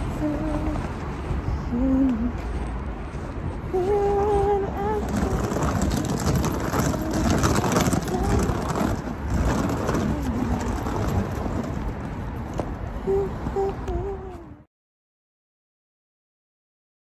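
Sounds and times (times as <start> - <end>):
road traffic rumbling: 0.0 - 14.7.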